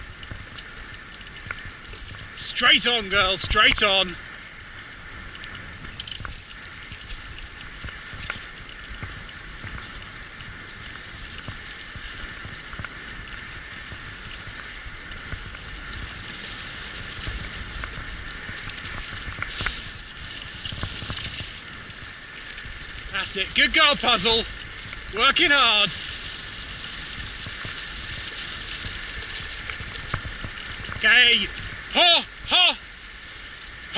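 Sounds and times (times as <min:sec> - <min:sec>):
small clicks: 0:00.0 - 0:02.3, 0:05.2 - 0:31.8
dog sled rig wheels crunching: 0:00.0 - 0:33.9.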